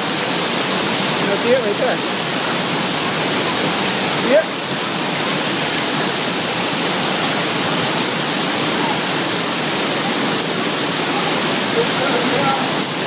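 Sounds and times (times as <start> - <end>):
water fountain splashing: 0.0 - 13.0.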